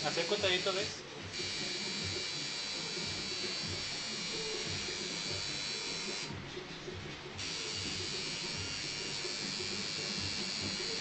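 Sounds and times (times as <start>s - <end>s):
small electric motor buzzing: 0.0s - 6.4s, 7.4s - 11.0s.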